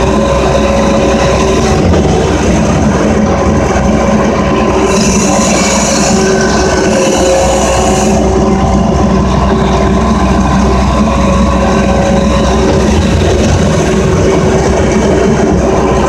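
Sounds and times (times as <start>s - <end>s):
loader engine running: 0.0s - 16.0s.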